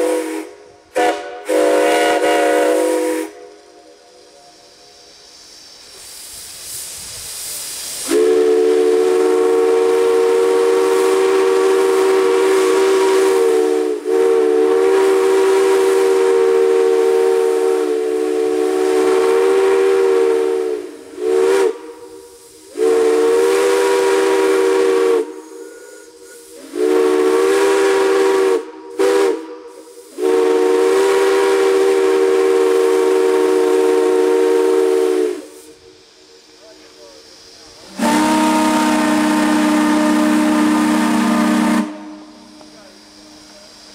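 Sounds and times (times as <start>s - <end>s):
steam whistle chord: 0.0s - 5.2s, 8.0s - 36.0s, 37.9s - 43.9s
steam hissing: 0.0s - 43.9s.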